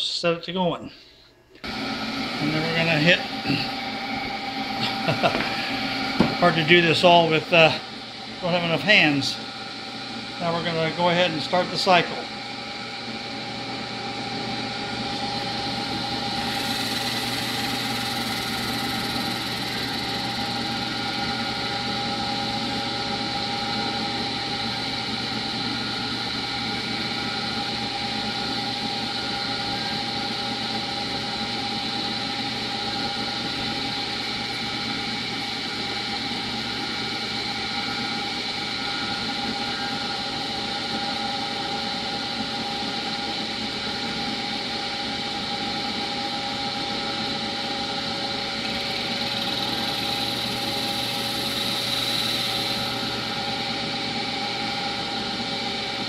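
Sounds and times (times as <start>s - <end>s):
milling machine whining: 1.6s - 56.0s.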